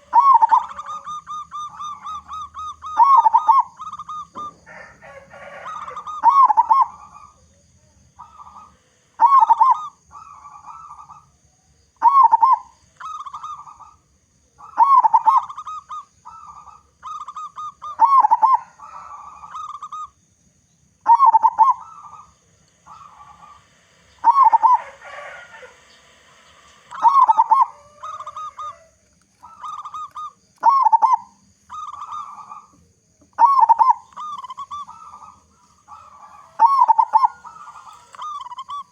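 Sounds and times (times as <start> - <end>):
dove cooing: 0.0 - 20.2, 21.1 - 38.9.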